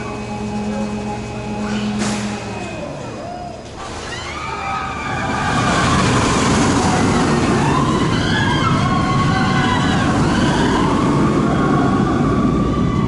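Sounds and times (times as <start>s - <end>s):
roller coaster rumbling: 0.0s - 13.0s.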